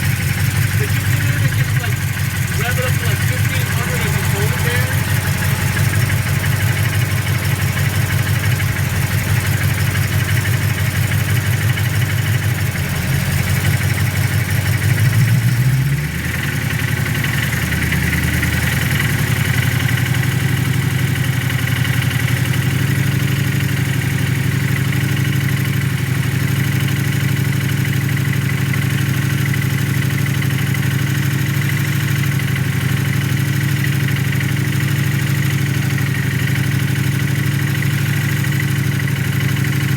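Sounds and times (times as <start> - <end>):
engine idling with knocking: 0.0 - 39.9.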